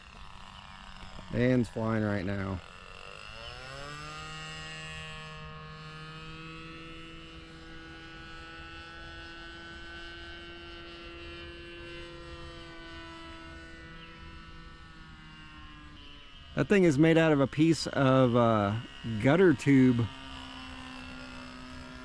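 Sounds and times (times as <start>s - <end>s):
model airplane motor whining: 0.0s - 22.0s.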